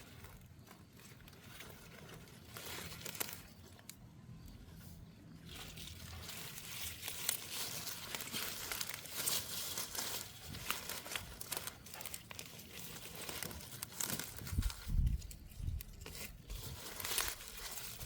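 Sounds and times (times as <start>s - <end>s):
dry material rustling and crackling: 0.0s - 18.0s.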